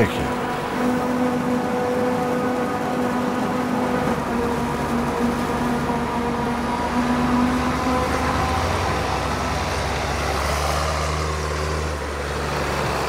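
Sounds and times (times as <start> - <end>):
harvester and tractor engines droning: 0.0 - 13.0.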